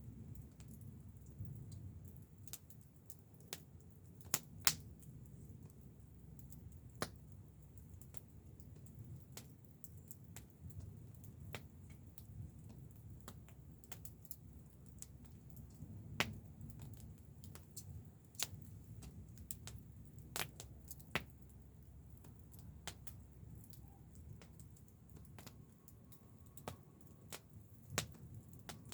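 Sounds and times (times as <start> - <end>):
low fire rumble: 0.0 - 28.9
wood fire crackling: 0.0 - 28.9
sharp pops and snaps: 0.4 - 5.8, 6.4 - 28.9.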